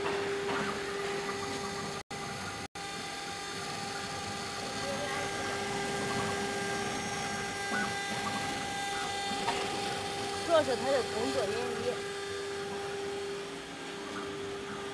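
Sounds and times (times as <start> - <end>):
router spindle motor whining: 0.0 - 14.9.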